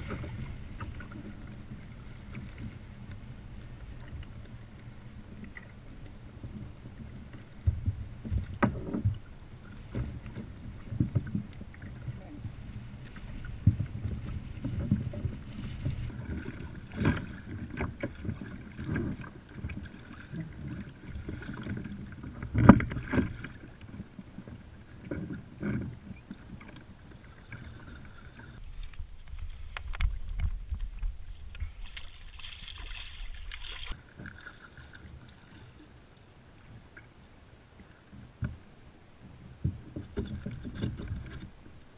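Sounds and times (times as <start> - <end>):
water slapping kayak hull: 0.0 - 41.9.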